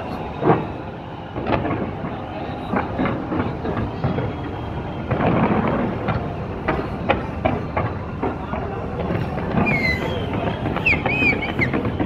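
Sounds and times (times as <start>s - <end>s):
fireworks bangs and crackles: 0.0s - 12.0s
rolling rumble: 0.0s - 12.0s.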